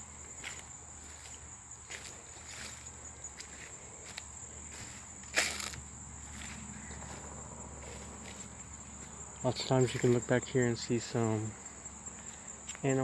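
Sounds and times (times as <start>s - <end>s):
footsteps on a trail: 0.0s - 13.0s
insects trilling: 0.0s - 13.0s.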